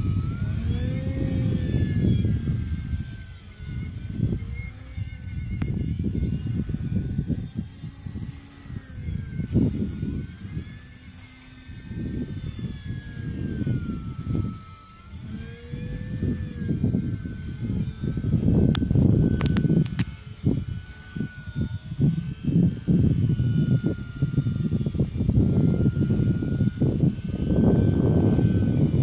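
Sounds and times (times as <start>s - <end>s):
gusty low rumbling: 0.0s - 11.0s, 11.6s - 29.0s
model plane motor whining: 0.0s - 29.0s.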